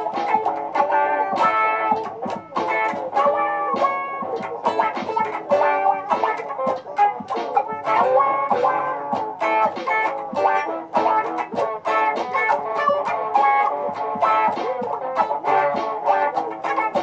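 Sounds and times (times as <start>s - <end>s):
layered guitar loops: 0.0s - 17.0s.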